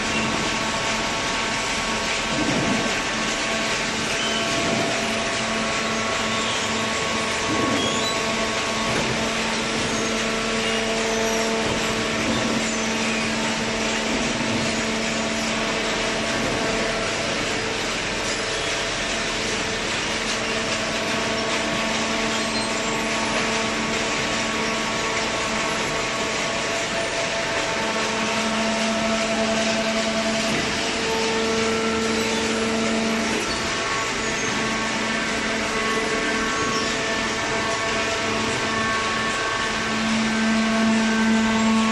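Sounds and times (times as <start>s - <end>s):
hydraulic motor and pump humming: 0.0s - 41.9s.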